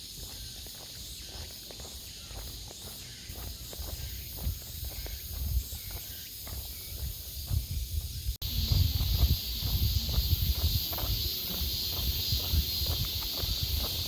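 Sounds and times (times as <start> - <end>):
cicadas and insects buzzing: 0.0 - 14.0
footsteps of person walking: 0.0 - 14.0.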